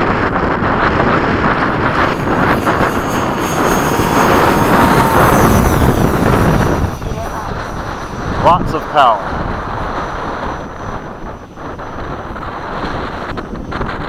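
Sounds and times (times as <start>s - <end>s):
electric ducted fan rushing: 0.0s - 14.0s.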